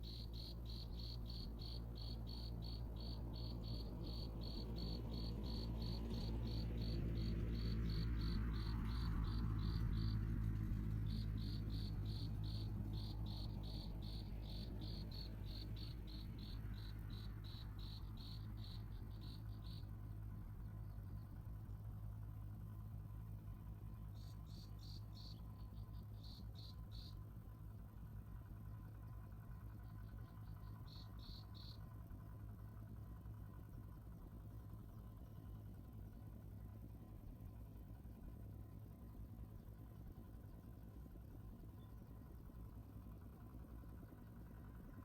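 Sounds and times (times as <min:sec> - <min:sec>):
cricket chirping: 0:00.0 - 0:45.0
steady low hum: 0:00.0 - 0:45.0.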